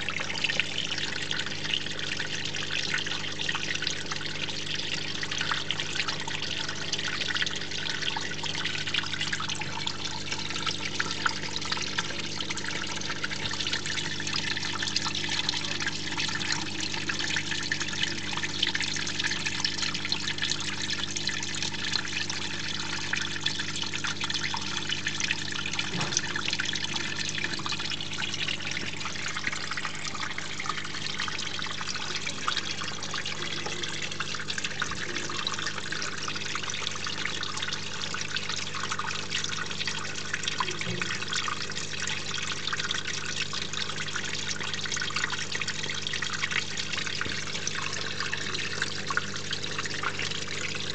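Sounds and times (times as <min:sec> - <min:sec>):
low steady hum: 0:00.0 - 0:50.9
water trickling and splashing: 0:00.0 - 0:50.9.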